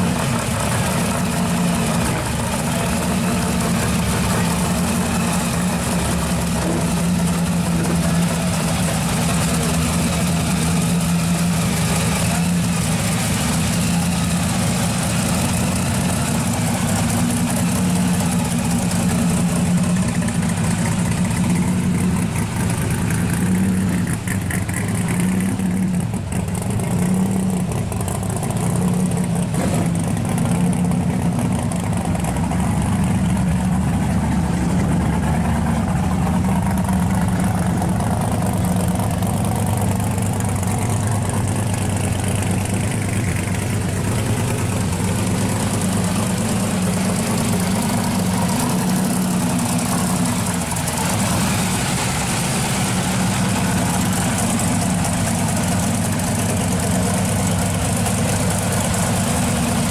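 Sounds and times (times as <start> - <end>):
car engine idling unevenly: 0.0 - 59.9.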